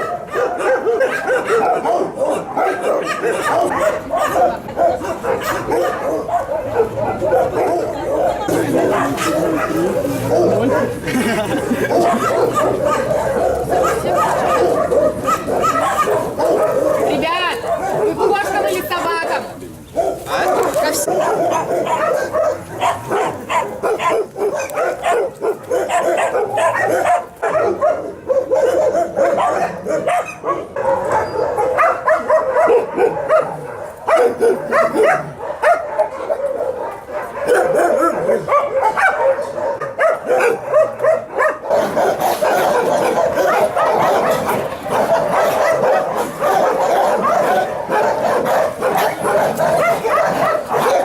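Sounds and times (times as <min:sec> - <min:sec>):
dogs barking and yelping: 0:00.0 - 0:51.0.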